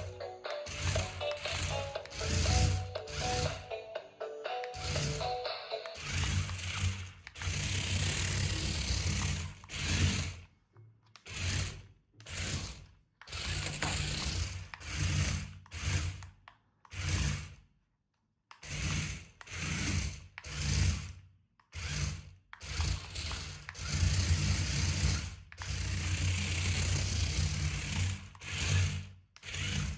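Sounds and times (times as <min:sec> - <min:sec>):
toy car motor whirring: 0:00.0 - 0:17.7, 0:18.5 - 0:29.9.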